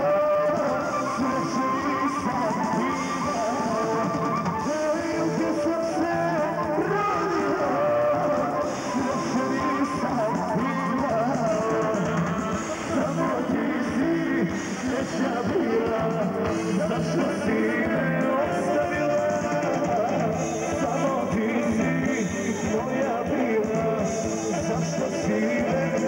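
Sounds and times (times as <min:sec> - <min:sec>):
folk band with accordion and guitar: 0:00.0 - 0:26.0
man singing: 0:00.0 - 0:26.0.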